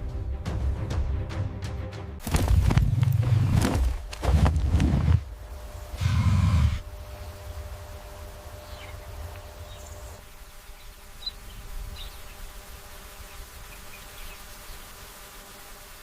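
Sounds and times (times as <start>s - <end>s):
insects buzzing: 2.2s - 16.0s.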